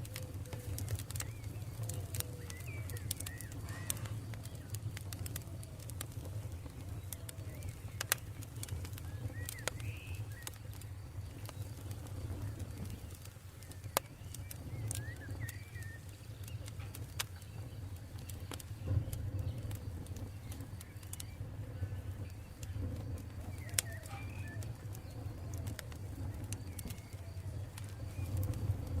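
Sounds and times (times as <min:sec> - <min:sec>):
birds chirping: 0:00.0 - 0:29.0
campfire crackling and popping: 0:00.0 - 0:29.0.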